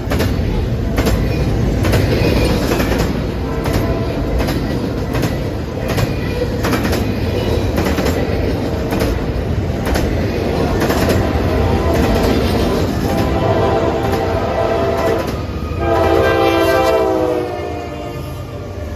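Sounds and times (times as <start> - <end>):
wheels clacking over rail joints: 0.0 - 16.6
freight train rumbling past: 0.0 - 18.9.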